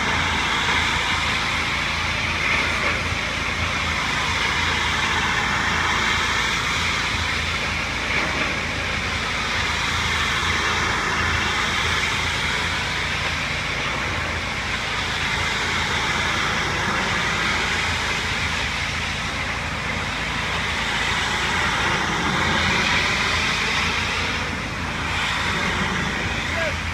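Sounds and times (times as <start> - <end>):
pressure washer motor hum: 0.0 - 26.9
water spray hissing on siding: 0.0 - 26.9.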